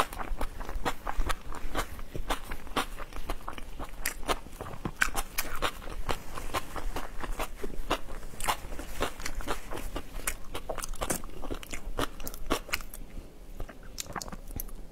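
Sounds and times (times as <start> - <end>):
person chewing crisp food: 0.0 - 14.9.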